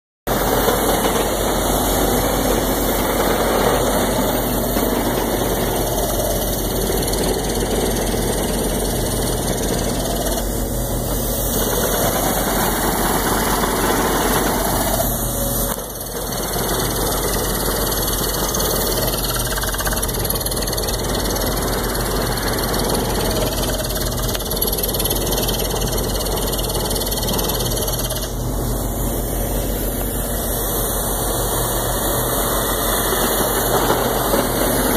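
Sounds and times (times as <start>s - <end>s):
heavy diesel drilling machinery: 0.3s - 34.9s.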